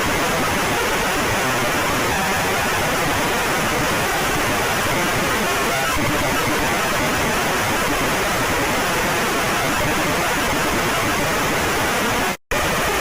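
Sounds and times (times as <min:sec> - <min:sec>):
white noise static: 0:00.0 - 0:13.0.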